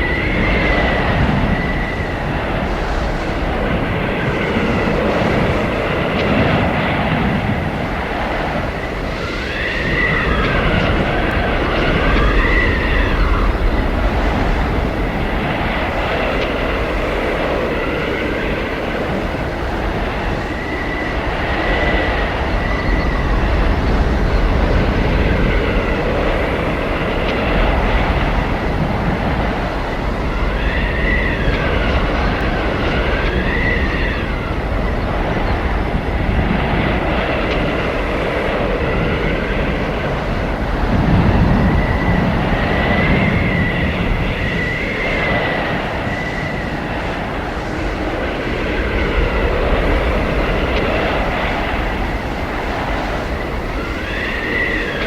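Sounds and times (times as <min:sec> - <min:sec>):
blizzard wind blowing hard: 0:00.0 - 0:55.0
whistling howl of wind: 0:00.0 - 0:55.0.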